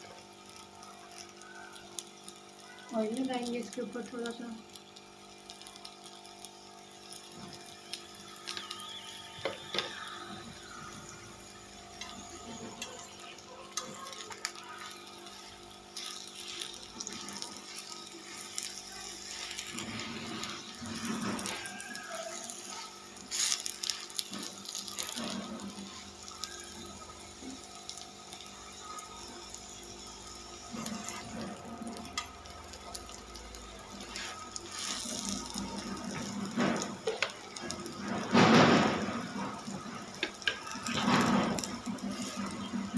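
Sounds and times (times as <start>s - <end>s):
flatbread sizzling in oil: 0.0s - 42.9s.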